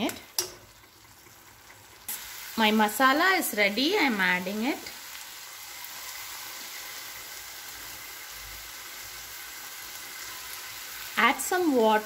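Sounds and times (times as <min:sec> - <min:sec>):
mushrooms sizzling in a pan: 0:00.0 - 0:12.0.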